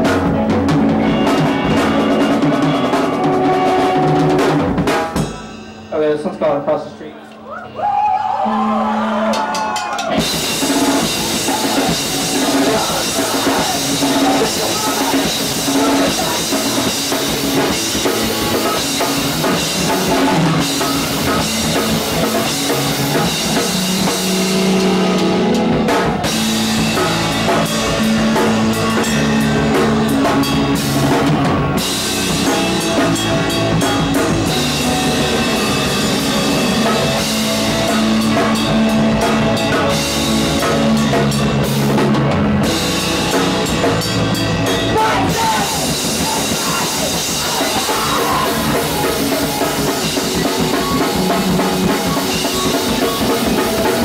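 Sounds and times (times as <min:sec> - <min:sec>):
drum kit: 0:00.0 - 0:07.0, 0:07.8 - 0:54.0
live rock band playing: 0:00.0 - 0:54.0.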